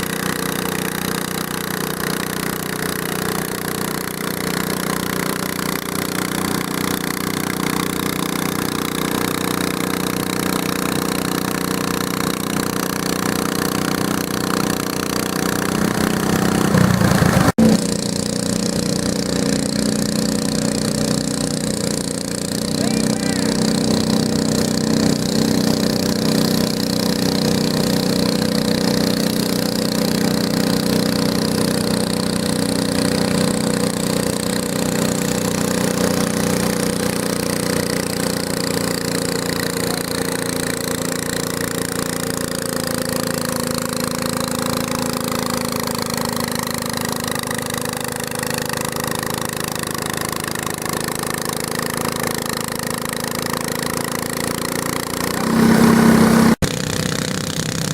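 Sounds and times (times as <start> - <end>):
garden tractor engine running: 0.0 - 57.9.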